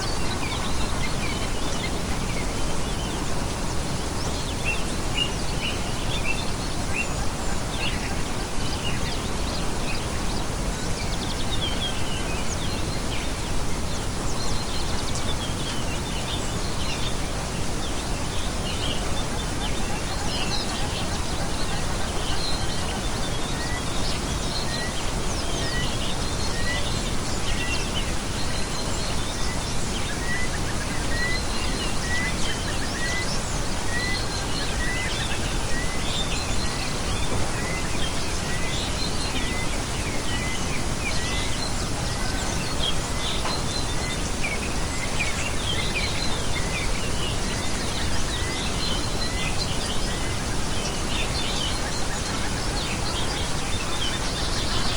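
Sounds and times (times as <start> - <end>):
small birds chirping: 0.0 - 54.9
steady loud hiss: 0.0 - 54.9.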